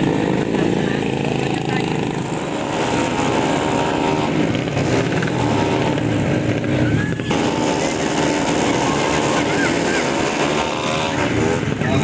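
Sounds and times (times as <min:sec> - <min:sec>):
racing scooter engines passing: 0:00.0 - 0:12.0.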